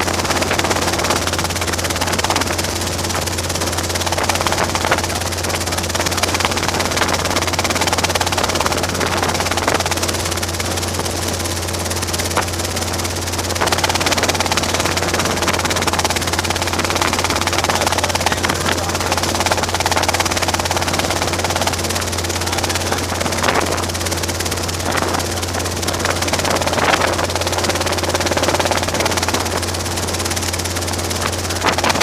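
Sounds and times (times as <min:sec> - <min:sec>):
helicopter rotor and engine drone: 0:00.0 - 0:32.0.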